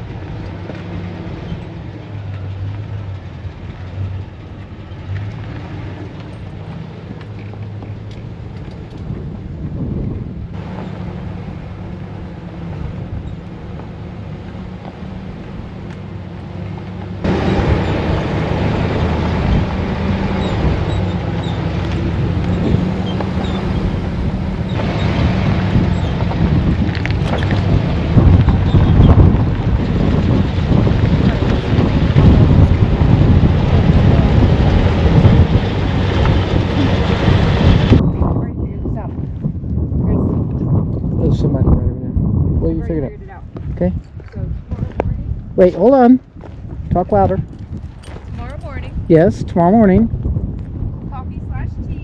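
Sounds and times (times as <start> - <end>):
road and tyre noise: 0.0 - 52.0
truck engine drone: 0.0 - 52.0.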